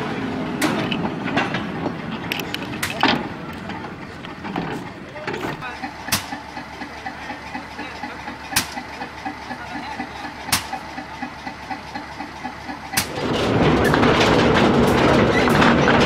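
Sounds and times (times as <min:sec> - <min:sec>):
diesel locomotive idling: 0:00.0 - 0:16.0
loud noisy rumble: 0:00.0 - 0:16.0.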